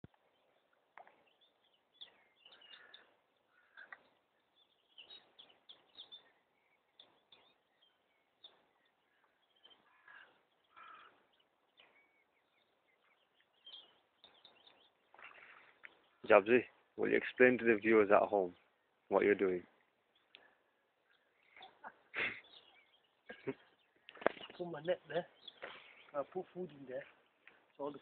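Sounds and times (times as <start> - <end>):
faint birds chirping: 0.0 - 28.0.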